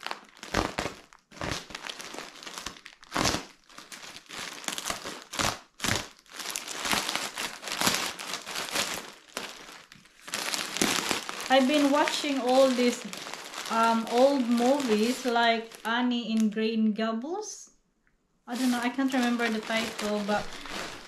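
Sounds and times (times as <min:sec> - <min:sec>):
plastic bag crinkling: 0:00.0 - 0:16.6, 0:18.5 - 0:21.0.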